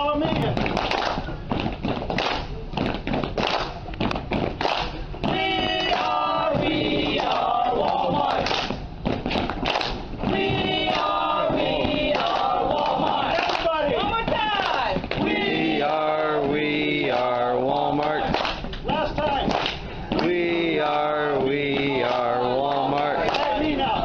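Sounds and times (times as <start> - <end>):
people clapping in rhythm: 0.0 - 24.0
group chanting and shouting: 4.6 - 24.0.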